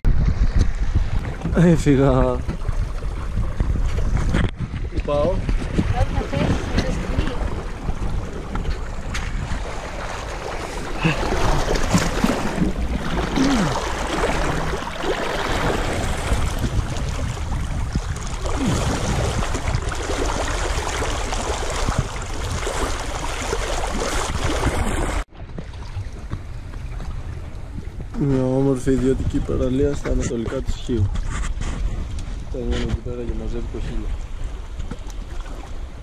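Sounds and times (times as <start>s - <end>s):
quiet water sounds: 0.0s - 36.0s
sea water rushing and splashing: 0.1s - 29.9s, 31.9s - 36.0s.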